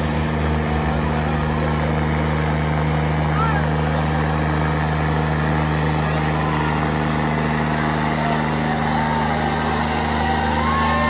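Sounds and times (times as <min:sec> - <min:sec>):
tractor diesel engines under load: 0:00.0 - 0:11.0.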